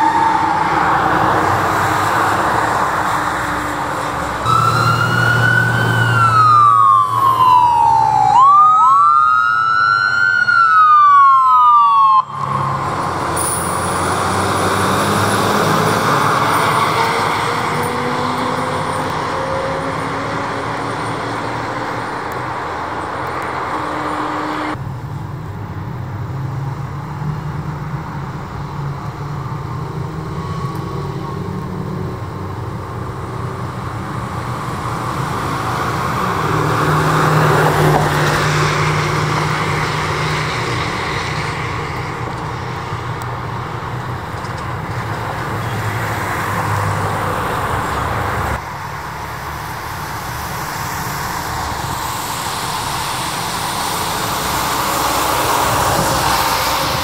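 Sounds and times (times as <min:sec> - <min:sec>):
vehicles driving past: 0:00.0 - 0:57.0.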